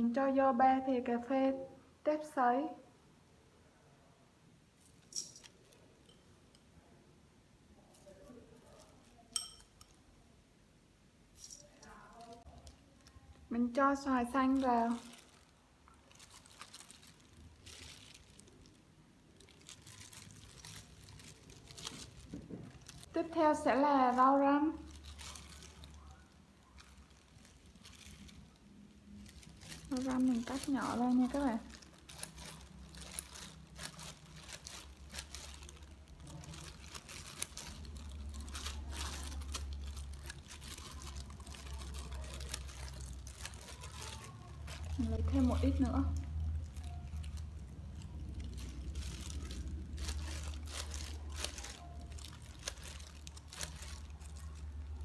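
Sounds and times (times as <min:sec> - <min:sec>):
low steady hum: 0:00.0 - 0:55.0
plastic gloves crinkling: 0:04.7 - 0:06.8, 0:07.7 - 0:10.1, 0:11.2 - 0:55.0.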